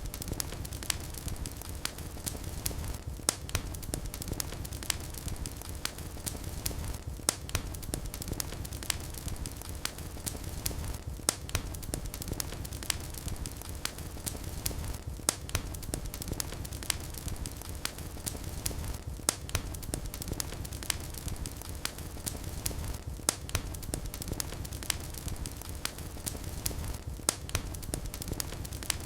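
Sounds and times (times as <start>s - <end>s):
fire crackling and popping: 0.0s - 29.0s
wood fire burning: 0.0s - 29.0s.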